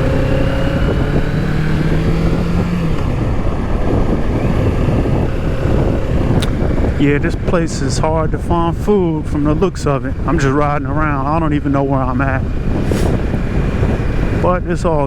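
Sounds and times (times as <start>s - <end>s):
motorcycle engine running: 0.0s - 14.6s
wind noise on microphone: 0.0s - 15.0s.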